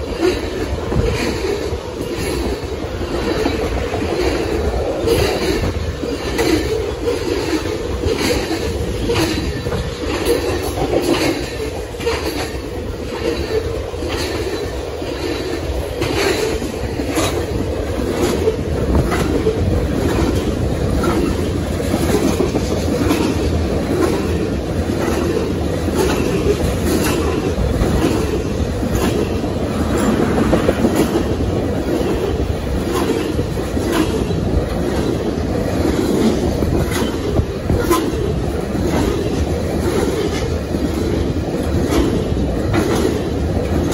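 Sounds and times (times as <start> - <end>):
steel wheels rumbling on rail: 0.0 - 43.9
wheels clickety-clack on track: 0.0 - 43.9.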